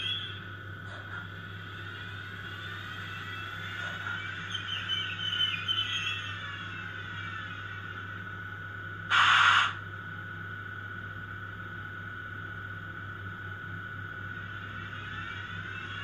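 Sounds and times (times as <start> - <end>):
electric hum with high whine: 0.0 - 16.0.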